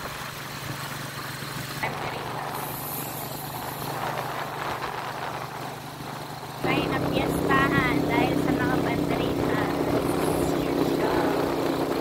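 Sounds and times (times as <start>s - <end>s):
road and wind noise: 0.0s - 12.0s
vehicle engine humming: 0.0s - 12.0s.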